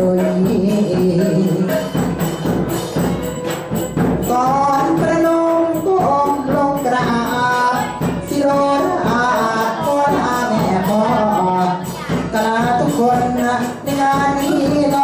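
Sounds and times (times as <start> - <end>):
man singing into a microphone: 0.0 - 2.0, 4.2 - 15.0
instrumental accompaniment: 0.0 - 15.0
jingling percussion: 0.0 - 15.0.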